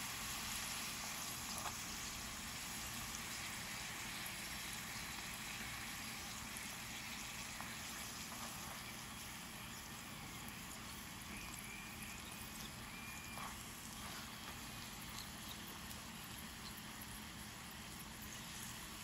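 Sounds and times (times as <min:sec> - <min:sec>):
tortilla sizzling in hot oil: 0:00.0 - 0:19.0.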